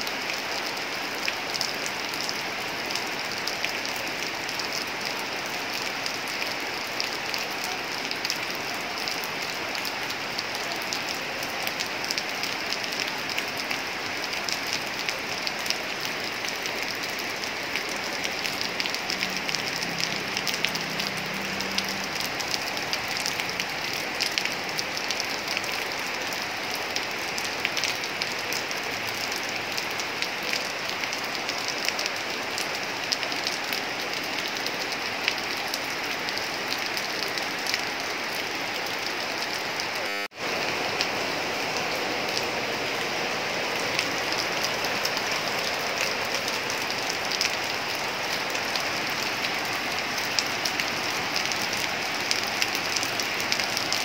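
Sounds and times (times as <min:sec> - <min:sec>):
heavy rain on metal roofs: 0:00.0 - 0:54.0.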